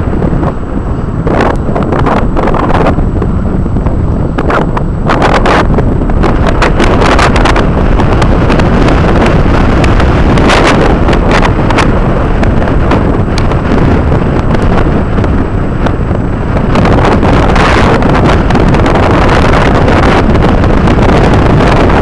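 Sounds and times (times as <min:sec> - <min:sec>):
jet ski engine: 0:00.0 - 0:22.0
wind buffeting microphone: 0:00.0 - 0:22.0.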